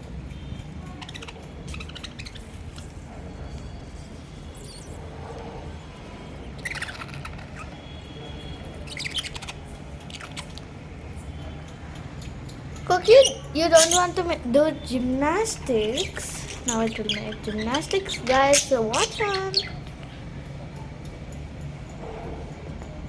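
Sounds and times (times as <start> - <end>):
parakeets chirping: 0.1 - 23.0.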